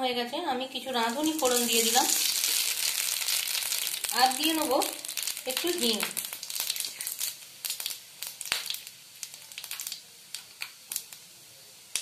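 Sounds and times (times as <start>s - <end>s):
oil sizzling: 0.3s - 12.0s
seeds popping in hot oil: 0.7s - 12.0s.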